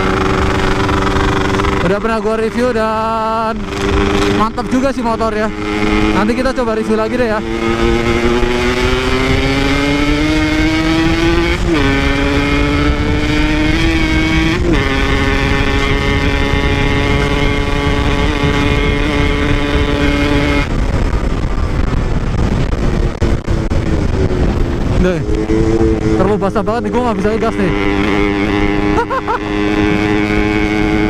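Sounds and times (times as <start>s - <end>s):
two-stroke motorcycle engine revving: 0.0s - 31.0s
wind rushing on microphone: 0.0s - 31.0s.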